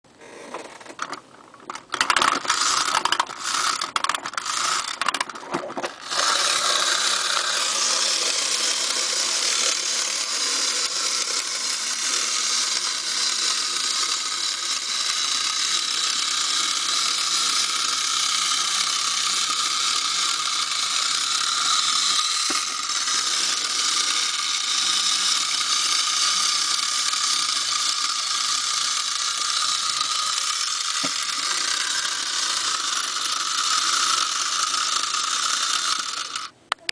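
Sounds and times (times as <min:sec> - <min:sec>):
wind-up toy whirring rattle: 0:00.9 - 0:36.6.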